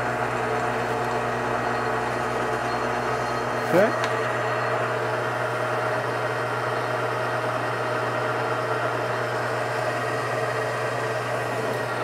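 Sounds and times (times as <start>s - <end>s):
metal lathe running: 0.0s - 12.0s
turning tool cutting metal: 0.0s - 12.0s.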